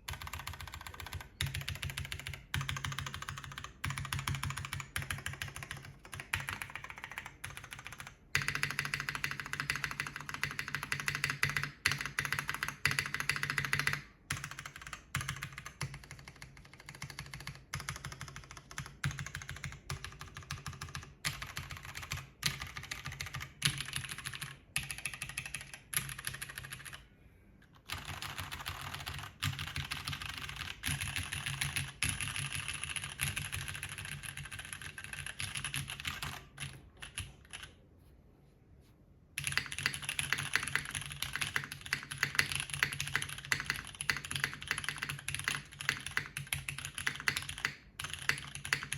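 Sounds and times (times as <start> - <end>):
mechanical keyboard typing: 0.0 - 27.1, 27.8 - 37.8, 39.4 - 48.9.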